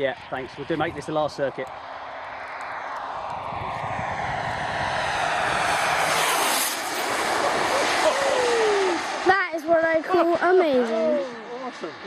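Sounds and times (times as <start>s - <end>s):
jet engine rushing whine: 0.0s - 12.0s.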